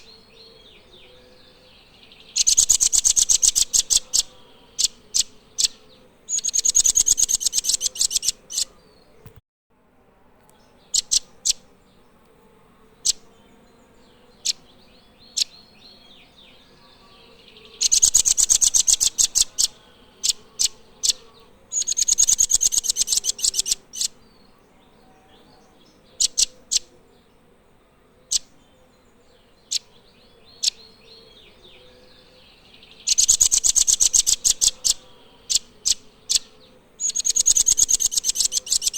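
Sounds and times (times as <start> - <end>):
bird song with rattling trills: 0.0 - 9.2, 10.6 - 12.1, 13.0 - 27.4, 28.2 - 38.9.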